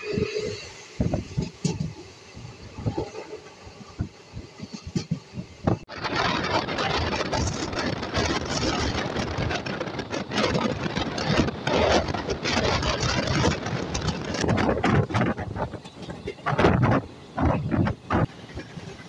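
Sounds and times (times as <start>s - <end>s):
passenger train running: 0.0s - 19.0s.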